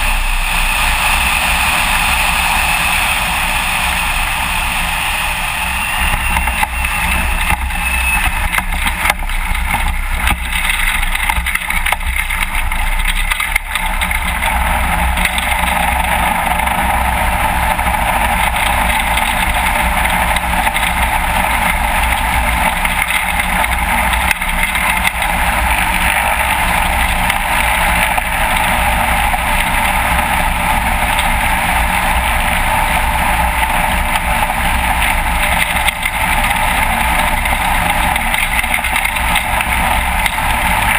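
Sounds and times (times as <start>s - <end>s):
light aircraft engine and propeller: 0.0s - 40.9s.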